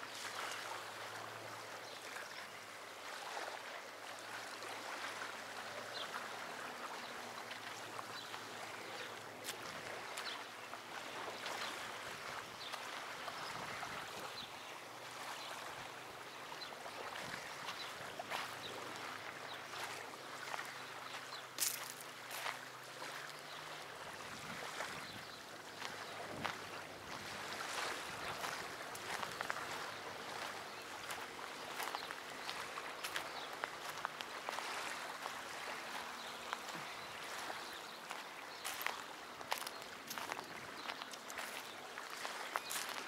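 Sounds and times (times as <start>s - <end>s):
water lapping and trickling: 0.0s - 43.0s.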